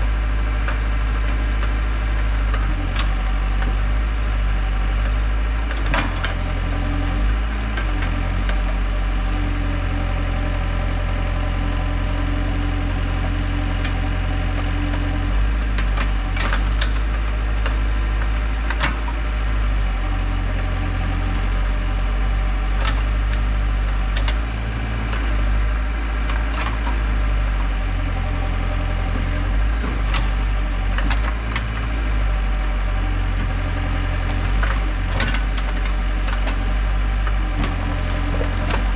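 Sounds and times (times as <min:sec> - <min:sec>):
heavy equipment engine running: 0:00.0 - 0:38.9.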